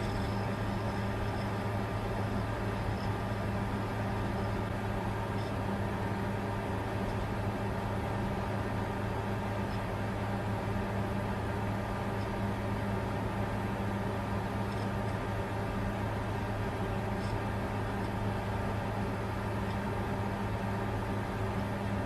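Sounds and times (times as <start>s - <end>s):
computer fan noise: 0.0s - 22.0s
constant low hum: 0.0s - 22.0s.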